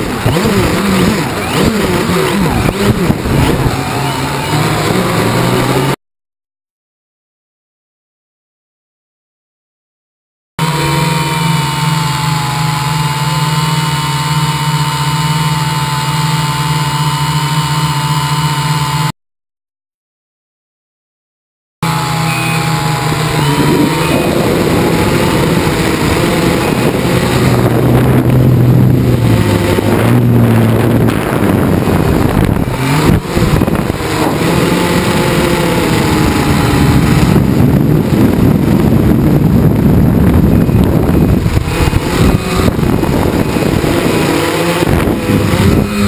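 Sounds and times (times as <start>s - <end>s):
quadcopter motors and propellers buzzing: 0.0s - 6.0s, 10.6s - 19.1s, 21.8s - 46.0s.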